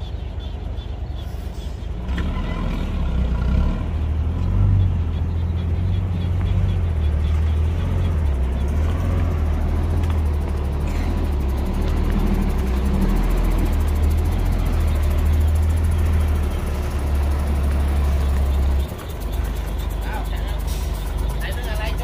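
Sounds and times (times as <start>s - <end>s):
heavy diesel engine rumbling: 0.0s - 22.0s.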